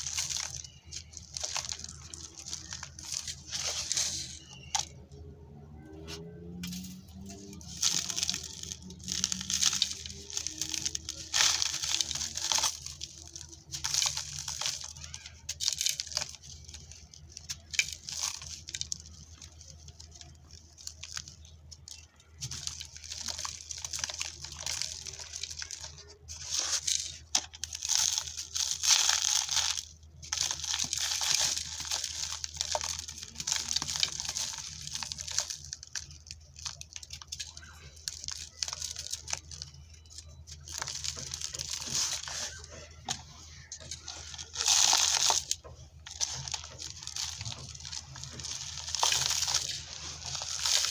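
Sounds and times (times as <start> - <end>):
dry dirt crunching: 0.0 - 50.9.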